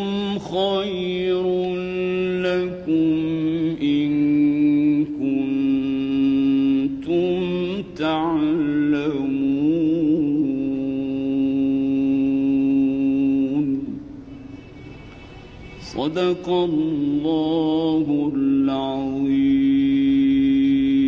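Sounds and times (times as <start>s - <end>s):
man chanting melodically: 0.0s - 14.0s, 15.8s - 21.0s.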